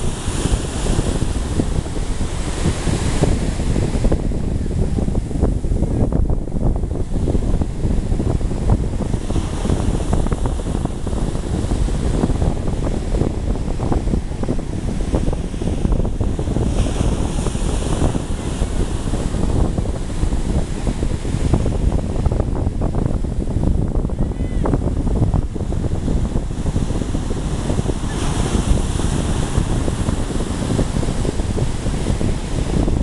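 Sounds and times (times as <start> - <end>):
surf rushing: 0.0 - 33.0
wind buffeting microphone: 0.0 - 33.0.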